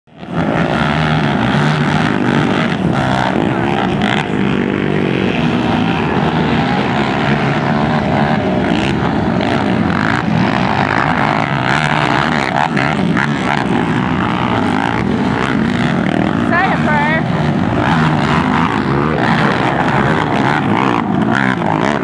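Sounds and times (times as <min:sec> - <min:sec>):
quad engines revving: 0:00.1 - 0:22.0.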